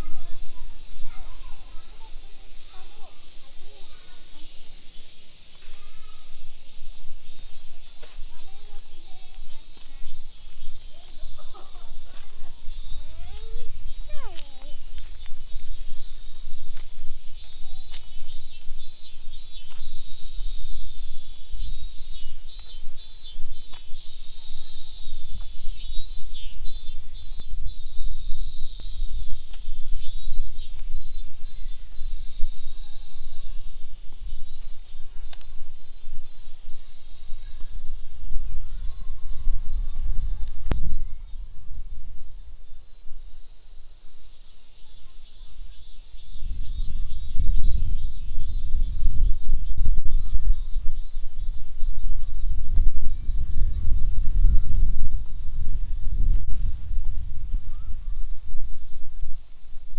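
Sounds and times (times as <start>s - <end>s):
insects buzzing and trilling: 0.0s - 59.9s.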